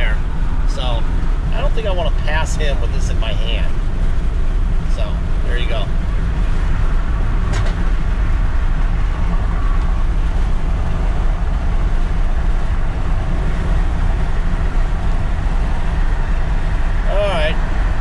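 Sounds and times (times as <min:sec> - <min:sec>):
truck cab road rumble: 0:00.0 - 0:18.0.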